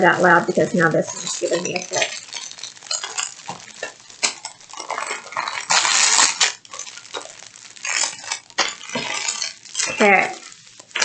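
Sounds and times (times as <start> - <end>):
plastic bags crinkling: 0.0 - 11.0
tiny beads rattling and clinking: 0.4 - 11.0.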